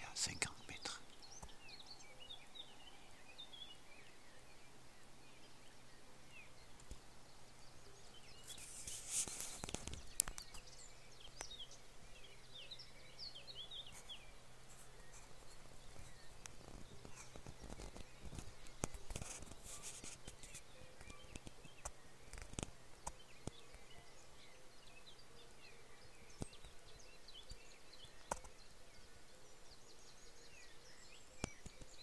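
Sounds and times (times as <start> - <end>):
rustle and twig clicks: 0.0 - 32.0
small birds twittering: 0.0 - 32.0.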